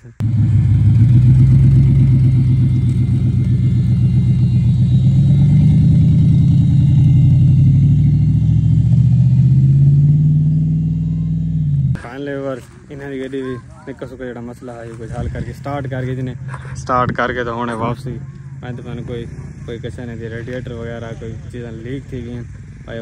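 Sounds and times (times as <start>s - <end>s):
pickup truck engines revving: 0.0s - 23.0s.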